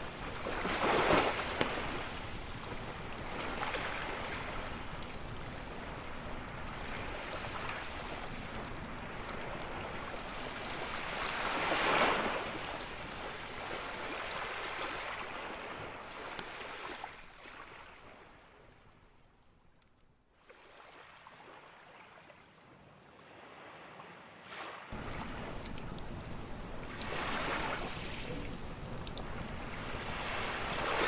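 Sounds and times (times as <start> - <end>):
ocean waves breaking on beach: 0.0 - 18.9, 20.4 - 31.0
faint campfire crackles: 0.0 - 31.0.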